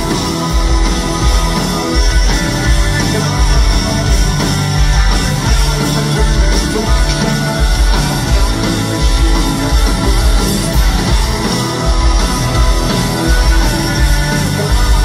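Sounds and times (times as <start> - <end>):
punk rock band playing: 0.0 - 15.0
singer singing into microphone: 0.0 - 15.0.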